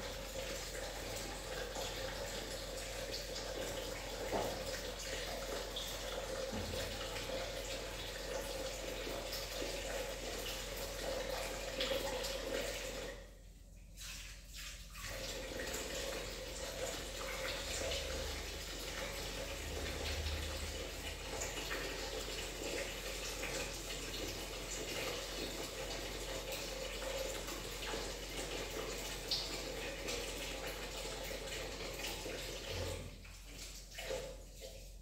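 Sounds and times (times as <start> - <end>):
water running from tap into sink: 0.0 - 13.4, 14.0 - 35.0.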